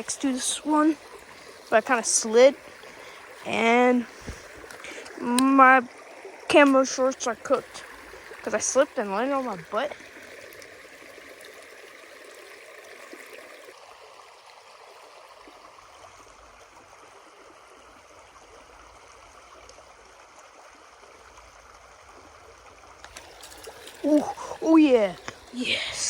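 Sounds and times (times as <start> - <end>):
creek water flowing over rocks: 0.0 - 26.0.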